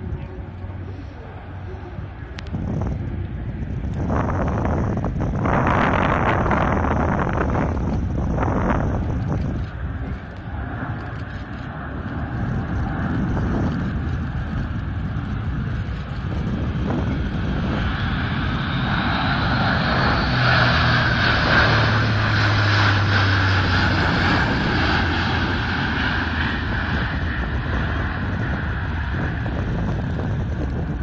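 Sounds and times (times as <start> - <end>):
turboprop aircraft drone: 0.0 - 31.0.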